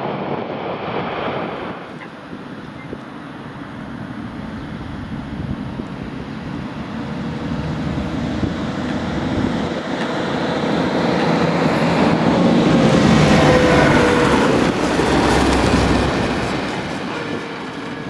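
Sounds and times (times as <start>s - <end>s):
jet engines roaring: 0.0s - 18.0s
faint engine whine: 1.5s - 18.0s.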